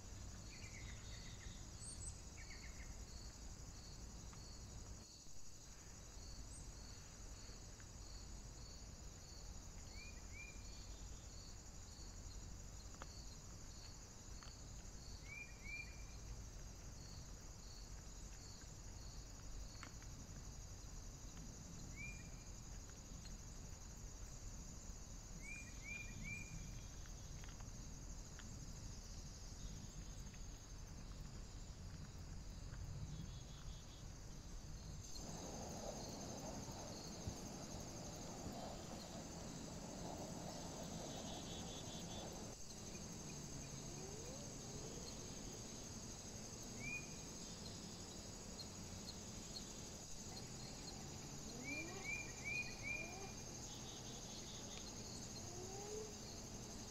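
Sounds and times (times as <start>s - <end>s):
cricket chirping: 0.0s - 56.9s
insect chirring: 0.0s - 56.9s.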